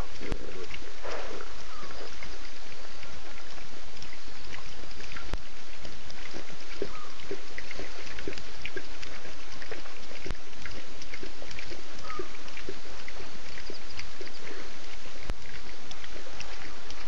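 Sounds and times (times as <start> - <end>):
lions lapping water: 0.0 - 17.0.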